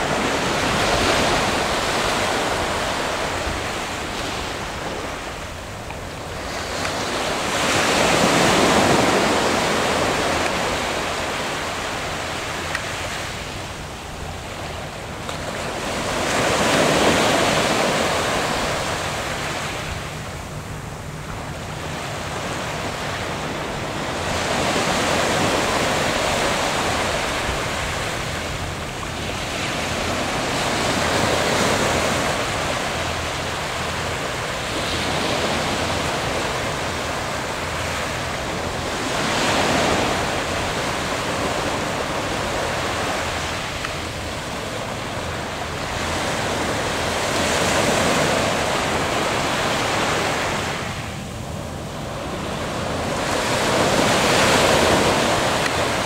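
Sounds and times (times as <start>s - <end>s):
waves breaking on sandy beach: 0.0s - 56.0s.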